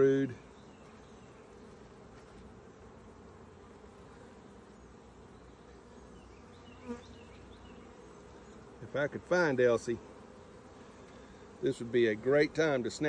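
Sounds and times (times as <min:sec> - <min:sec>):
bee buzzing close by: 0:00.0 - 0:13.0
honeybees humming: 0:00.0 - 0:13.0.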